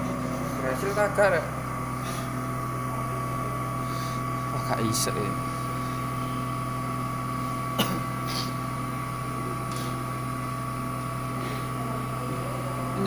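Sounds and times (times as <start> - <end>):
milling machine humming and whining: 0.0 - 13.0.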